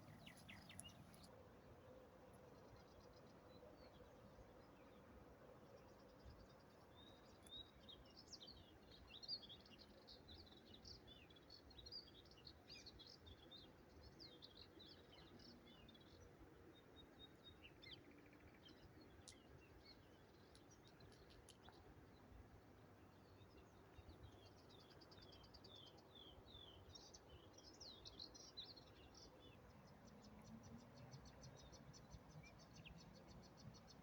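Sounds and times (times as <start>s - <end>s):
faint songbirds chirping: 0.0s - 34.0s.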